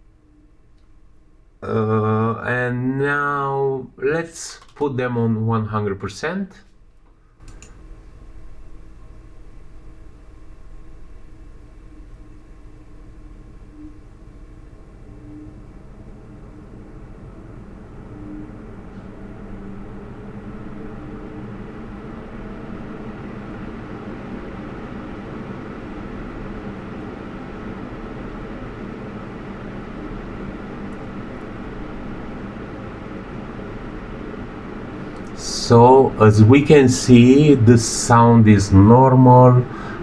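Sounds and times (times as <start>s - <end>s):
computer fans rushing air: 0.0s - 40.0s.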